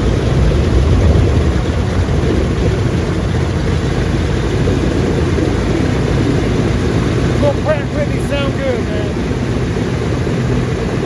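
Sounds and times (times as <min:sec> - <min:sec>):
radial piston engines rumbling: 0:00.0 - 0:11.0.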